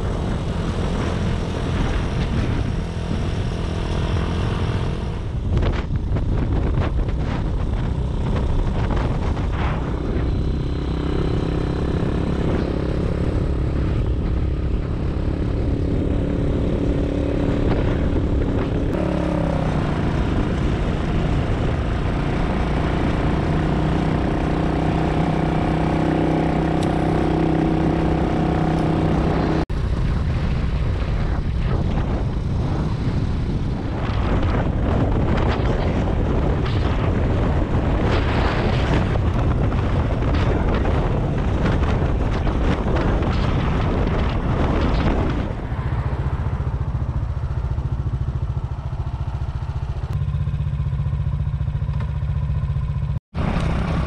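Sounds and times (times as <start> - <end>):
wind noise: 0.0 - 51.9, 52.6 - 54.0
motorcycle engine running: 0.0 - 54.0
road noise: 0.0 - 54.0.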